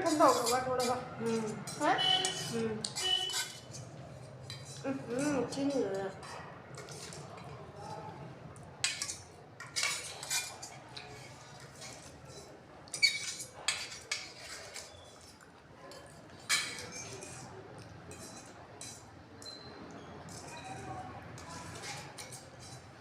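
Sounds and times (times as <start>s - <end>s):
cutlery and dishes clinking: 0.0s - 8.0s, 8.7s - 23.0s.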